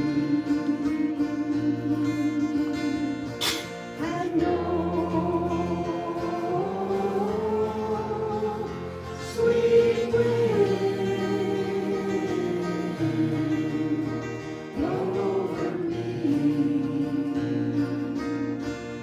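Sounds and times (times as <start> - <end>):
guitar accompaniment: 0.0 - 19.0
voices singing long held notes: 0.0 - 19.0.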